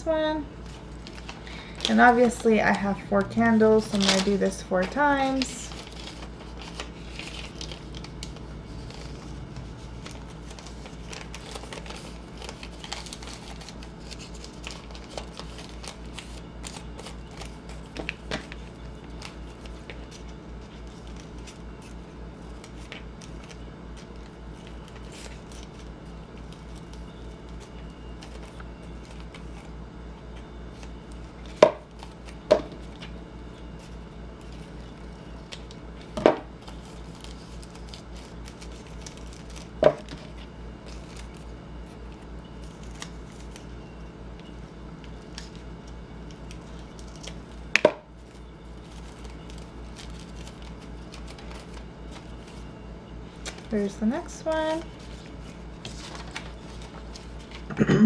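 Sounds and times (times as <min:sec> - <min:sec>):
low steady hum: 0:00.0 - 0:58.0
paper rustling: 0:00.6 - 0:29.7, 0:30.7 - 0:43.6, 0:46.3 - 0:47.6, 0:48.2 - 0:52.7, 0:53.4 - 0:57.7.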